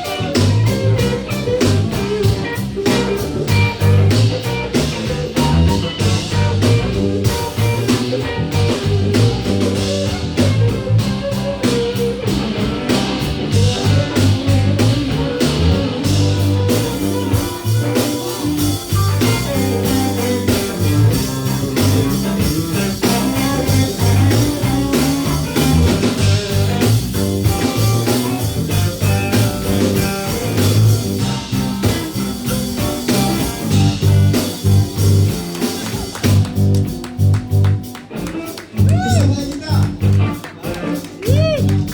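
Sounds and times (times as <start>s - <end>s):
low bass line: 0.0s - 37.9s, 38.8s - 40.4s, 41.2s - 41.9s
drum kit: 0.0s - 41.9s
electric guitar: 0.0s - 41.9s.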